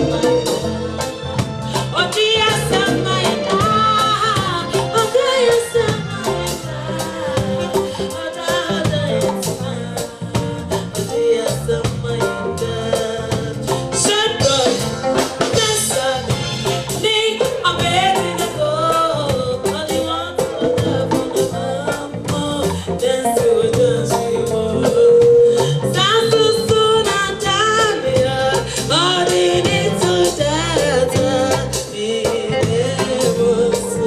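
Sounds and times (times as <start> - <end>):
live gospel band with singing: 0.0 - 34.0.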